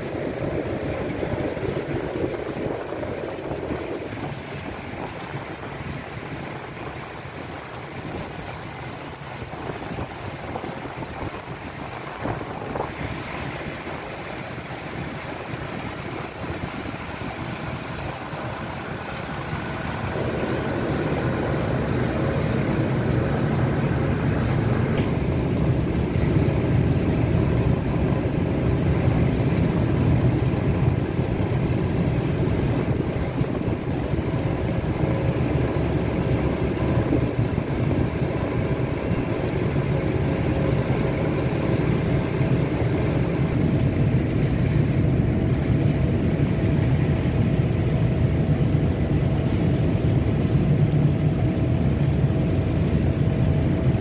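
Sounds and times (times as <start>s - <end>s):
thin high whine: 0.0s - 45.6s
boat engine rumble: 0.0s - 54.0s.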